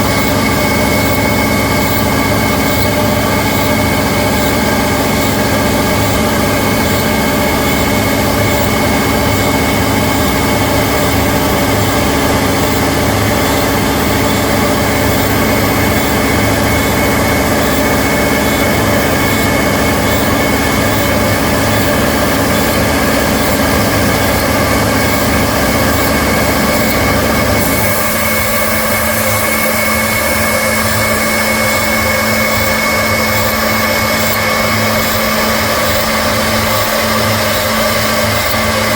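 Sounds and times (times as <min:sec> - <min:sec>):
machine running with steady tones: 0:00.0 - 0:38.9.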